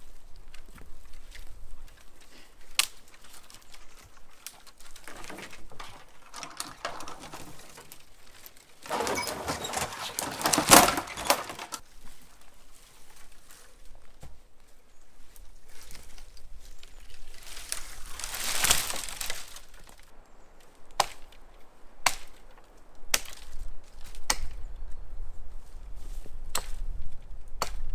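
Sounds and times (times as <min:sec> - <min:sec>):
branches rustling and crackling: 0:00.0 - 0:27.9.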